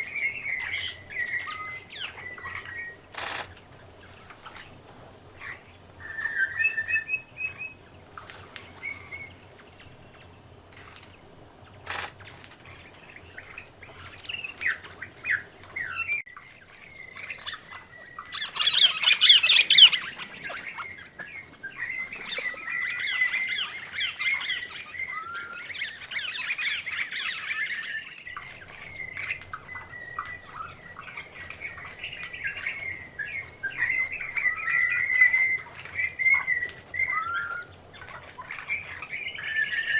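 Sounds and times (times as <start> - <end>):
flock of birds chirping and squawking: 0.0 - 39.9.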